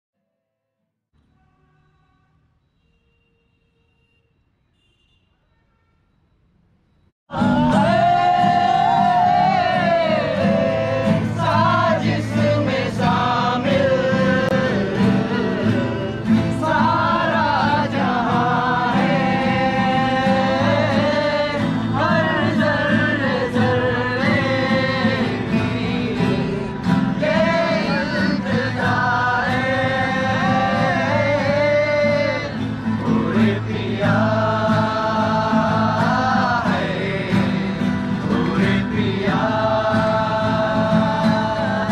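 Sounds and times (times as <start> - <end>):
men singing together: 7.3 - 41.9
strummed acoustic guitars: 7.3 - 41.9.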